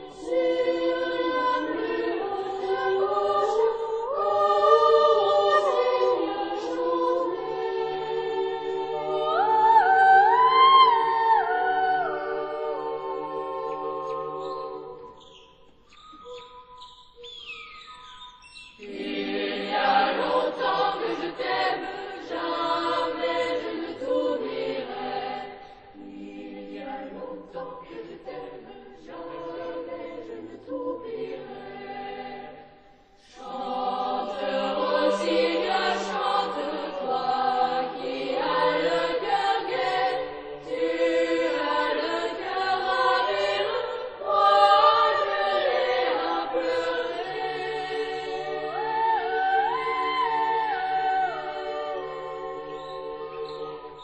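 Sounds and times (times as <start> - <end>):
boys' choir singing: 0.0 - 15.3, 18.8 - 54.0.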